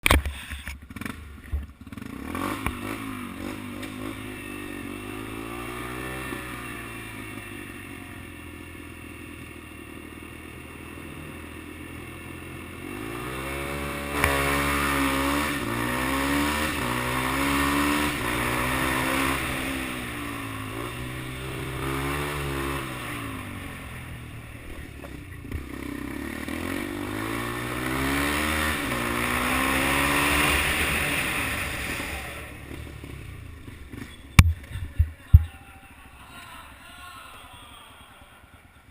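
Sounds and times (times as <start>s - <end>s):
dirt bike engine revving: 0.2s - 8.2s, 9.4s - 35.7s.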